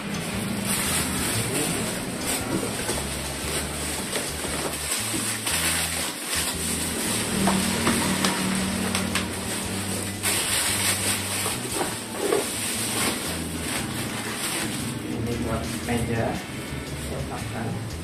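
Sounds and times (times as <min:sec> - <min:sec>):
background music with bass: 0:00.0 - 0:18.0
bubble wrap crinkling: 0:00.2 - 0:16.2.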